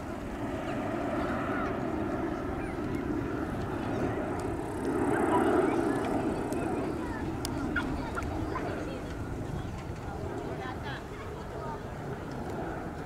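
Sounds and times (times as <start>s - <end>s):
jet airliner flying overhead: 0.0s - 13.0s.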